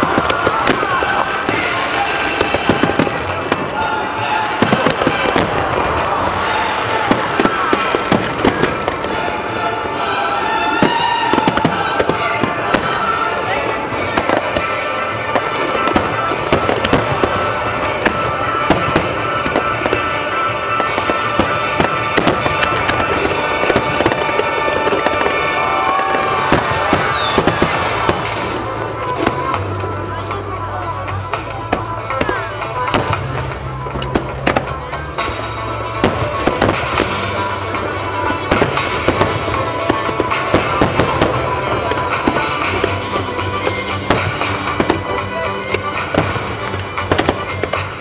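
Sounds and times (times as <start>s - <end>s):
fireworks bangs and crackles: 0.0s - 48.0s
music playing: 0.0s - 48.0s.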